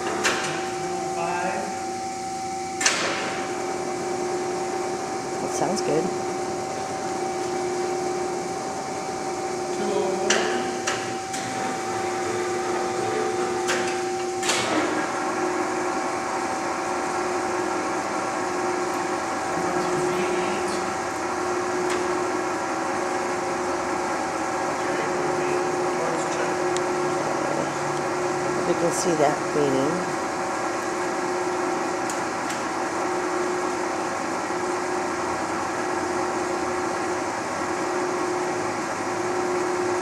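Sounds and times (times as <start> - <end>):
lathe gear-head whine: 0.0 - 40.0.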